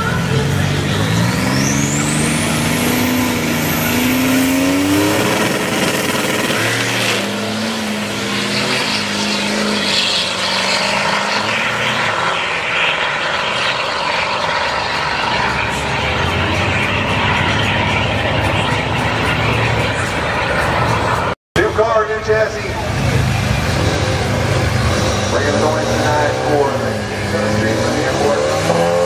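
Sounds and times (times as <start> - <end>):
car engine accelerating hard: 0.0 - 21.4, 22.3 - 29.0.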